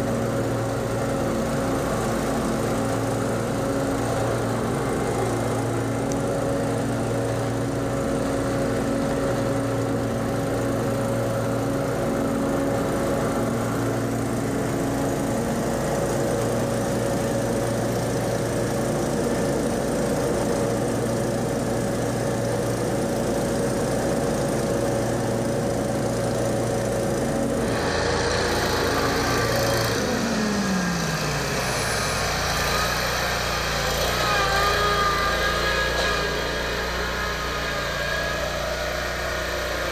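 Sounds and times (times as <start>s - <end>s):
leaf blower engine running: 0.0s - 39.9s
mower engine throttling down: 0.0s - 39.9s.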